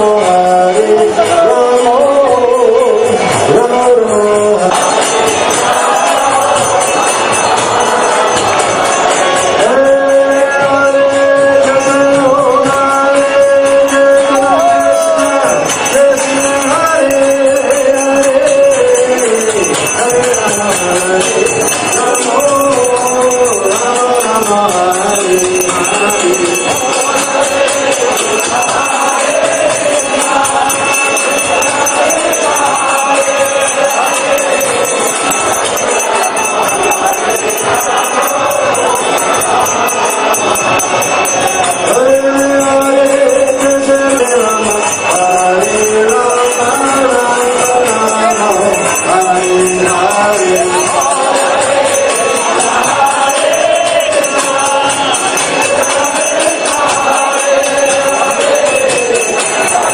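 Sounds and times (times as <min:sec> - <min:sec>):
group chanting: 0:00.0 - 0:59.9
hand cymbals jingling: 0:00.0 - 0:59.9.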